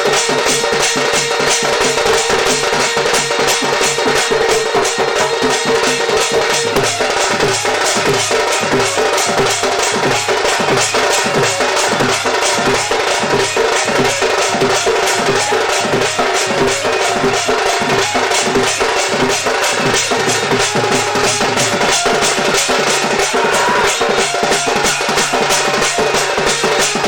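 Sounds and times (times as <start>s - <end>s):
fast steady drumming: 0.0s - 27.0s.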